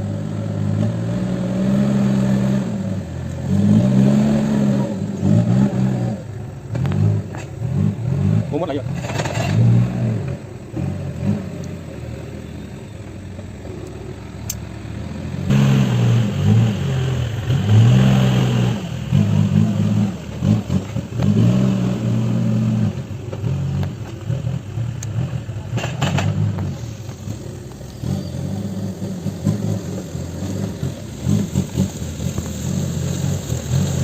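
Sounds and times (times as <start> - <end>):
diesel engine revving under load: 0.0 - 34.0.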